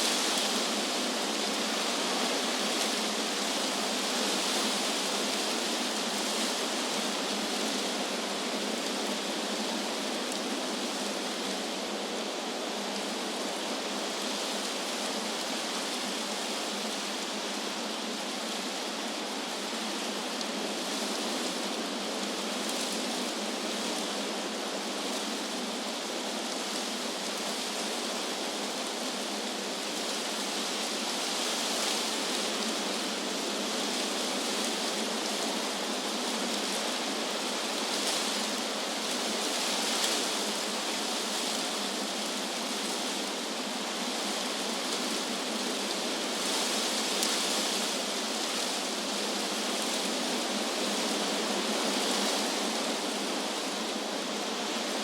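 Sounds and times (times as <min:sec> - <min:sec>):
wind through tree leaves: 0:00.0 - 0:55.0.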